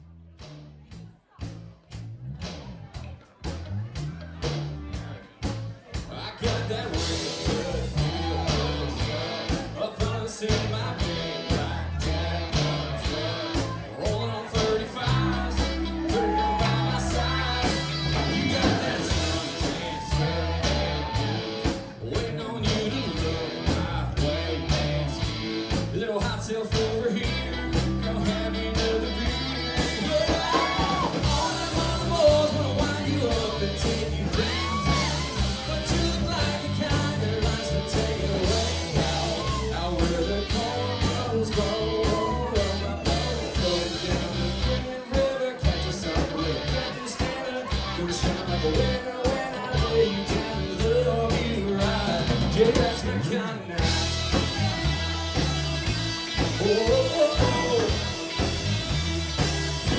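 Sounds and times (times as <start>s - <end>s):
bass guitar: 0.0s - 59.9s
drum beat: 3.0s - 53.0s, 53.8s - 59.9s
person singing: 4.4s - 59.9s
electric guitars: 6.0s - 59.9s.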